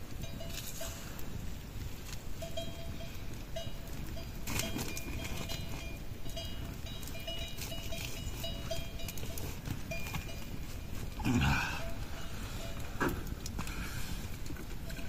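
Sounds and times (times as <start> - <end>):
sheep bells clinking: 0.0 - 15.0.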